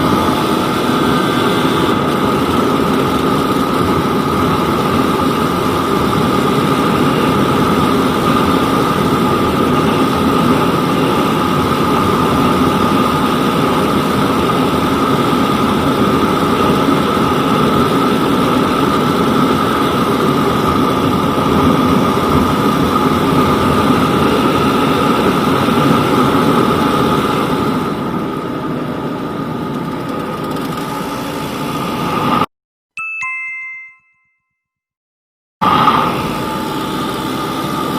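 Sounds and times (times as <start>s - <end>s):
two-stroke motorcycle engine running: 0.0s - 28.2s, 29.2s - 32.3s, 35.7s - 37.9s.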